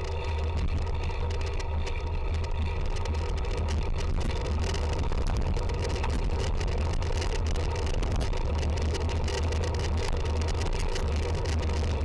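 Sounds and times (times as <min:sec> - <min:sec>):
motor traffic: 0:00.0 - 0:12.0
road rumble: 0:00.0 - 0:12.0.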